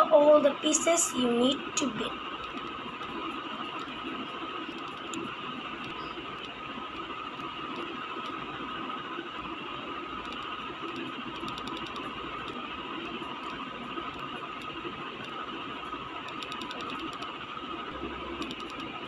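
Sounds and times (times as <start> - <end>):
mechanical whirring with whine: 0.0 - 19.0
faint ticking: 2.0 - 19.0.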